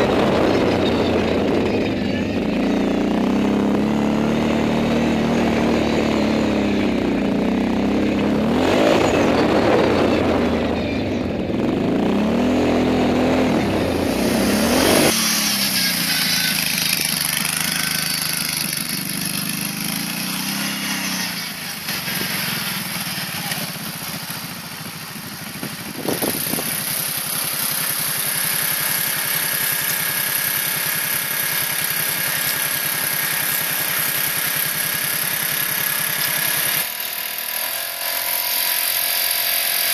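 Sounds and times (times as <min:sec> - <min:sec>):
distant engine running: 0:00.0 - 0:39.9
quad engine revving: 0:00.0 - 0:39.9.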